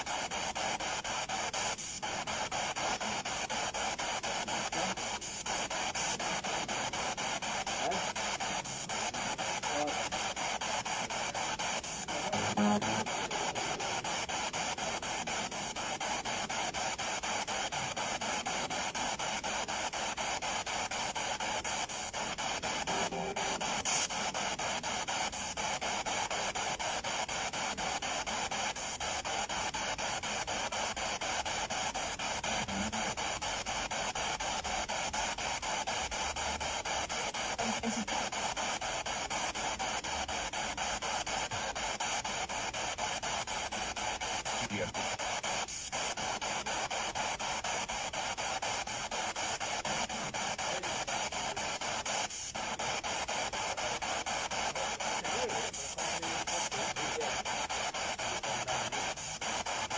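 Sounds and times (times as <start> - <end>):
chopped radio static hiss: 0.0 - 59.9
snatches of radio sound: 0.0 - 59.9.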